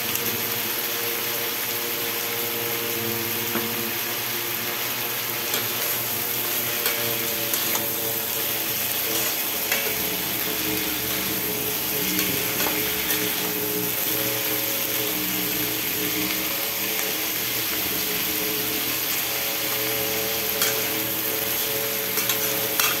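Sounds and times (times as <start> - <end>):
food sizzling in pan: 0.0 - 23.0.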